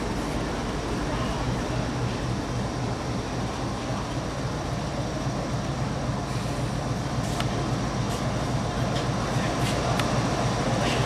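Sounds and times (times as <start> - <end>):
locomotive engine droning: 0.0 - 11.0.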